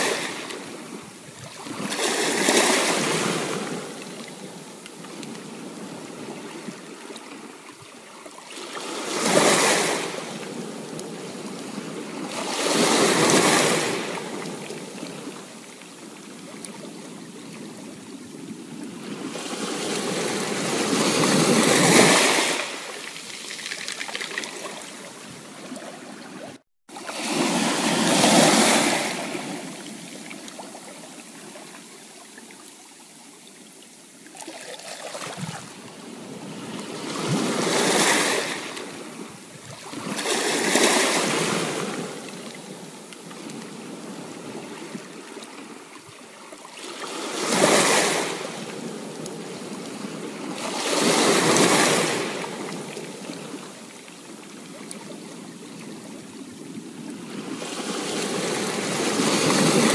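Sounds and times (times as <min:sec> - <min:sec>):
waves breaking on sandy beach: 0:00.0 - 0:59.9.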